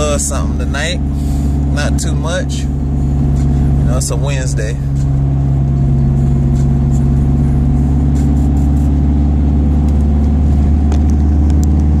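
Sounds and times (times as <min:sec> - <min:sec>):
car engine drone from inside: 0:00.0 - 0:12.0.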